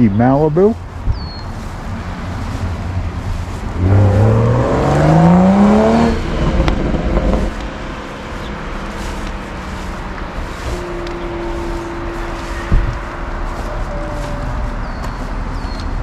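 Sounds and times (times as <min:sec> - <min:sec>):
car engine accelerating: 0:01.3 - 0:16.0.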